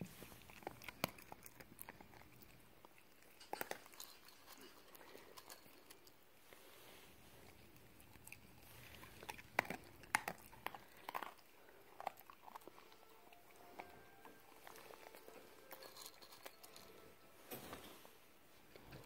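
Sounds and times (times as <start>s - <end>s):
dog chewing food crunchily: 0.0s - 6.4s, 7.1s - 17.0s.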